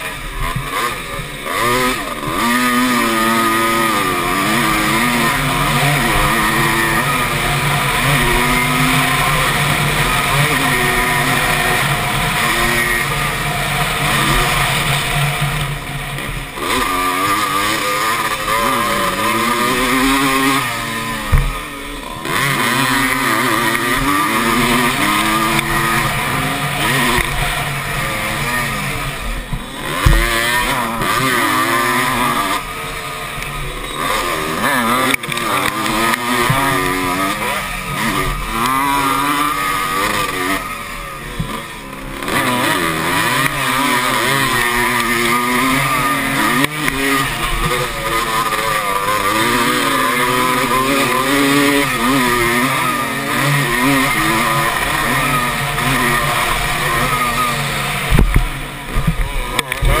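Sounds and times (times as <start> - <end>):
motocross bike engine racing: 0.0 - 60.0.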